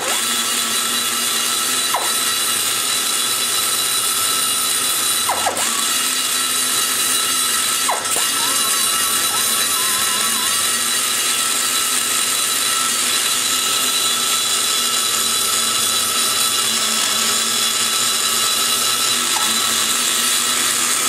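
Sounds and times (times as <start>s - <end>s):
grinder whining: 0.0s - 21.0s.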